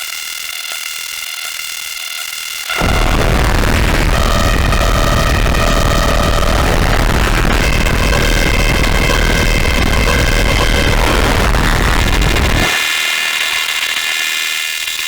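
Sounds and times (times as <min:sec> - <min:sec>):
distorted synthesizer drone: 0:02.7 - 0:15.0.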